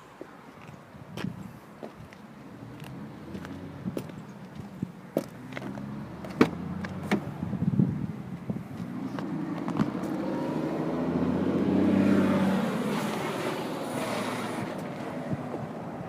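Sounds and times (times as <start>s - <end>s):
motor vehicle: 0.0s - 16.0s.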